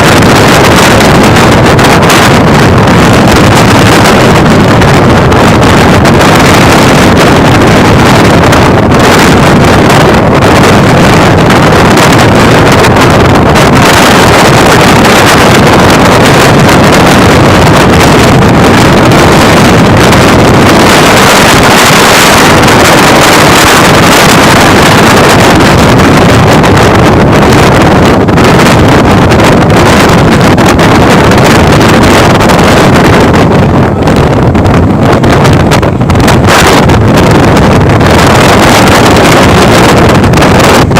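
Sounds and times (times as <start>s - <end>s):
train running at speed: 0.0s - 40.9s
wind buffeting microphone: 0.0s - 40.9s.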